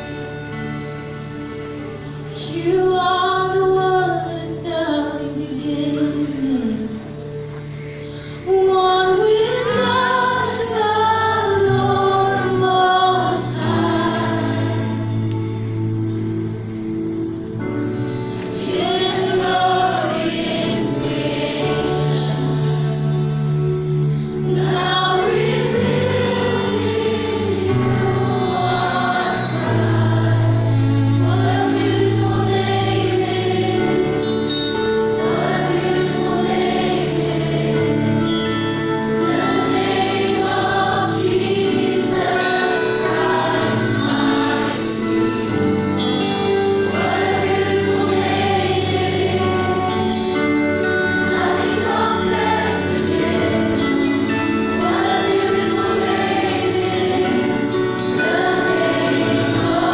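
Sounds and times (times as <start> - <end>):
worship band playing: 0.0 - 59.9
group of people singing: 8.5 - 16.2, 18.3 - 23.8, 24.4 - 59.9.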